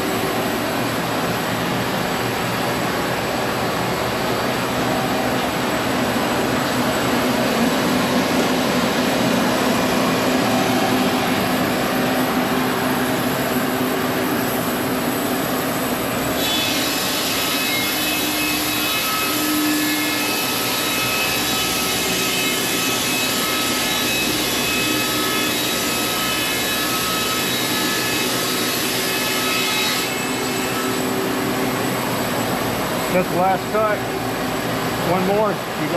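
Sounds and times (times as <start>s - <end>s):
sawmill cutting wood: 6.2s - 35.9s.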